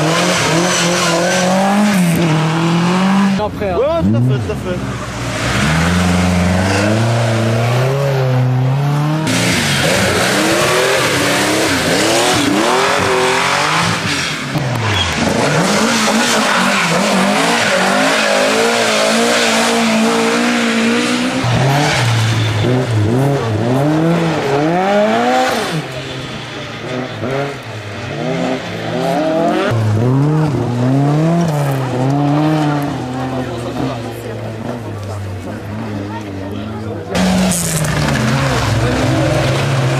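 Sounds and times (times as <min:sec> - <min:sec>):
rally cars passing at full throttle: 0:00.0 - 0:39.9.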